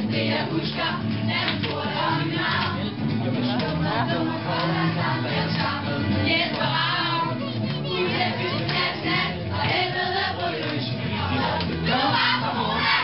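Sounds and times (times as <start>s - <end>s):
backing music: 0.0s - 13.0s
teenagers singing together: 0.0s - 13.0s.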